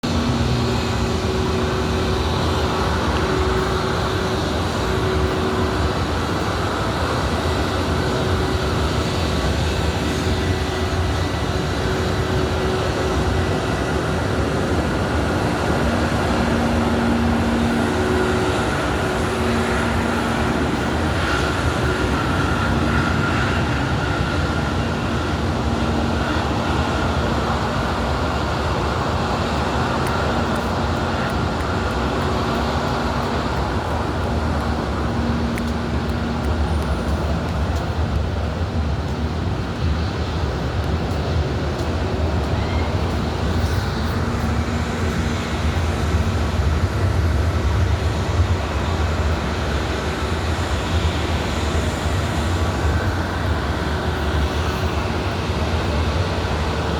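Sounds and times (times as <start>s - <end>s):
vehicle engine rumble: 0.0s - 56.9s.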